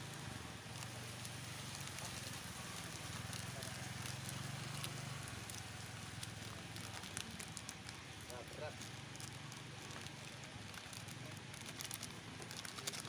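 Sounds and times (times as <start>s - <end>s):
paper sachet crinkling: 0.7s - 13.0s.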